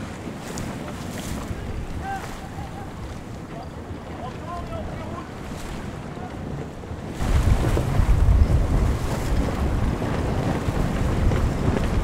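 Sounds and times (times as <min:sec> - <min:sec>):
choppy sea water rushing: 0:00.0 - 0:12.0
wind buffeting microphone: 0:00.0 - 0:12.0.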